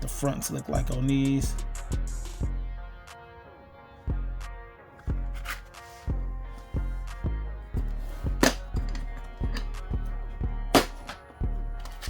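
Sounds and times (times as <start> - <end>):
music with bass beat: 0.0 - 3.2, 4.1 - 12.0.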